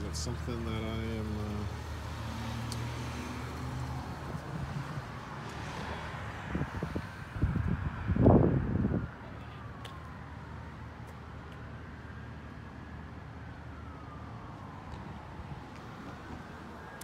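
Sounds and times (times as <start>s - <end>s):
distant siren wailing: 0.5s - 17.0s.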